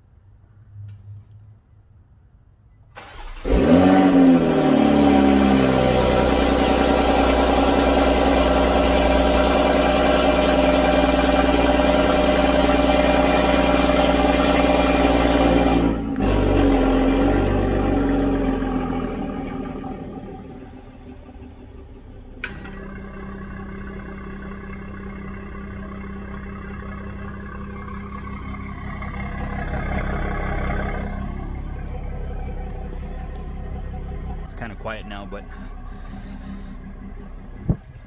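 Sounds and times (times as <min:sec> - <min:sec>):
car engine cranking: 0:02.9 - 0:38.0
car engine revving to fast idle: 0:03.0 - 0:38.0.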